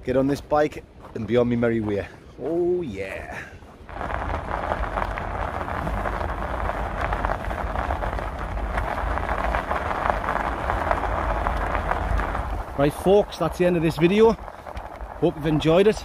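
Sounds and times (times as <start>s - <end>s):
tyre noise: 0.2s - 16.0s
wind buffeting microphone: 2.7s - 16.0s.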